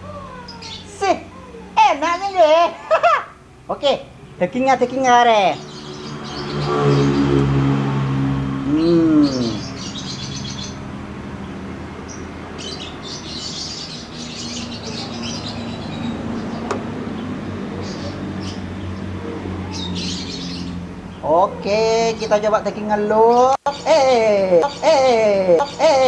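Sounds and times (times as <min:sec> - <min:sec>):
small birds chirping: 0:00.0 - 0:07.5, 0:08.7 - 0:26.0.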